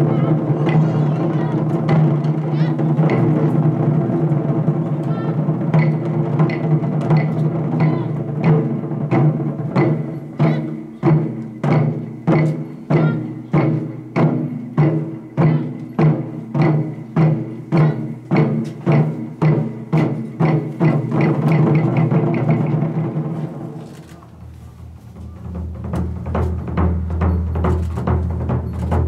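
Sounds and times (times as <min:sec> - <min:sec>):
taiko drums struck hard: 0:00.0 - 0:23.8, 0:24.4 - 0:29.0.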